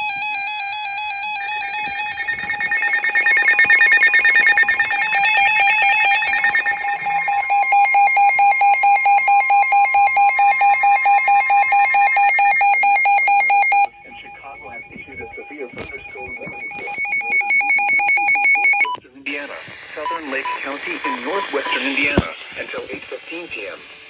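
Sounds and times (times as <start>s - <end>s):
alarm beeping steadily: 0.0s - 19.0s, 20.0s - 22.4s
weather radio alarms beeping and warbling: 0.0s - 23.8s.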